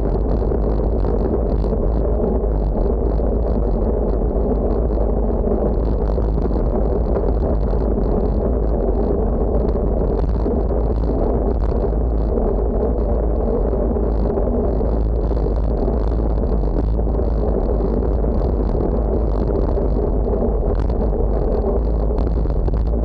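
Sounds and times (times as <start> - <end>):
tyre and road rumble: 0.0 - 23.0
wind rushing over microphone: 0.0 - 23.0.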